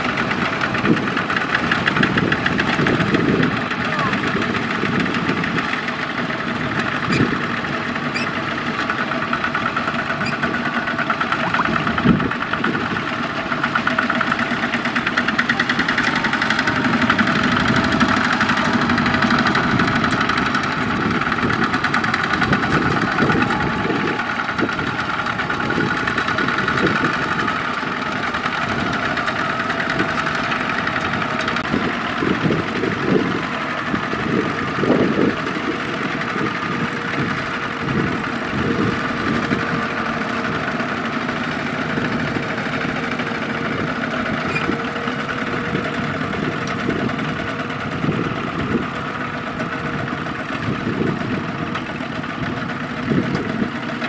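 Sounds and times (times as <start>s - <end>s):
diesel tractor engines chugging: 0.0s - 54.0s.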